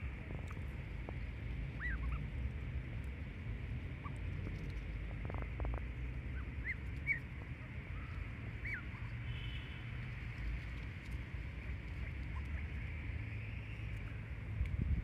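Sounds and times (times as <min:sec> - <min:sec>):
low rumble of wind: 0:00.0 - 0:15.0.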